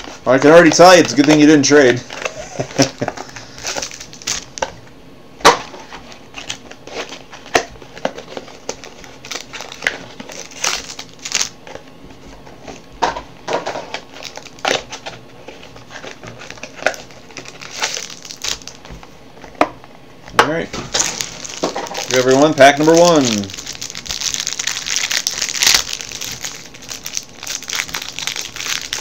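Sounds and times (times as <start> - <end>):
plastic wrappers crinkling: 0.0 - 4.8, 5.8 - 11.9, 13.5 - 19.6, 20.7 - 29.0.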